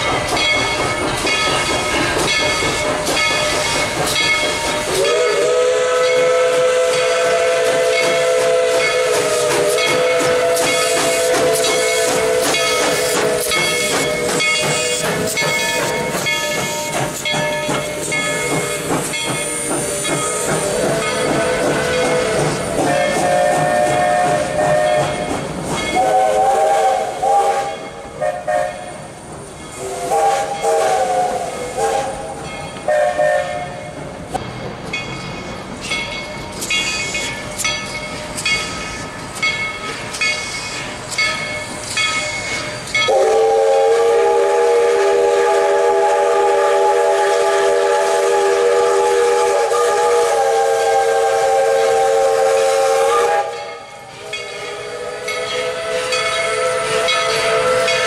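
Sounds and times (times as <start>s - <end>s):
locomotive bell ringing: 0.0s - 26.5s, 27.6s - 31.4s, 32.0s - 43.5s, 51.7s - 58.0s
steam locomotive chime whistle: 0.0s - 58.0s.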